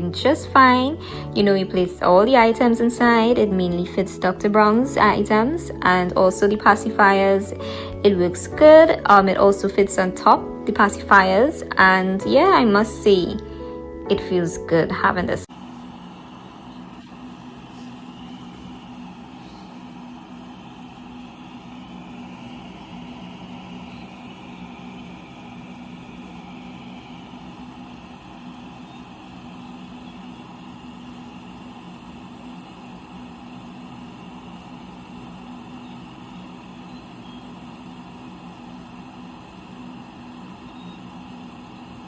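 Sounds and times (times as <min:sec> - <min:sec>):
sterilizer humming: 0:00.0 - 0:42.0.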